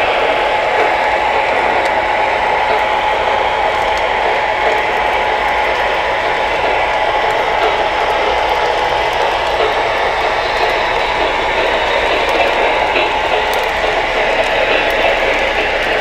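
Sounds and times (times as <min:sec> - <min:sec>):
model train wheels rattling on rails: 0:00.0 - 0:16.0.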